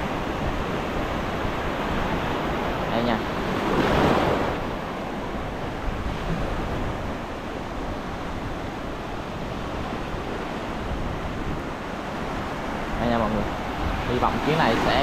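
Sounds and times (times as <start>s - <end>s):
sea surf washing onto beach: 0.0s - 15.0s
wind on microphone: 0.0s - 15.0s.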